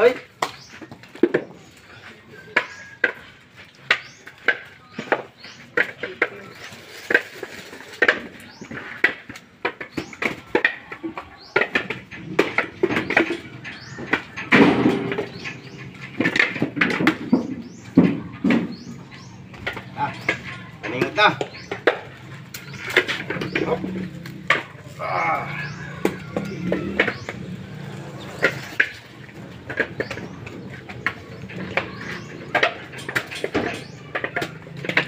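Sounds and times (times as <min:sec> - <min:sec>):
coconuts knocking together: 0:00.0 - 0:35.0.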